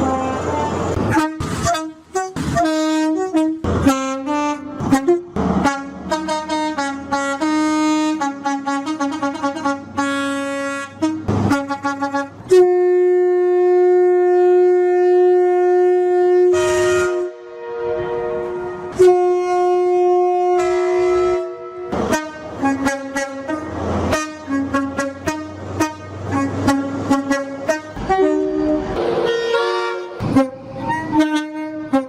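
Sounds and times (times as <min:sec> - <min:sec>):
train air horn blasts: 0:00.0 - 0:32.0.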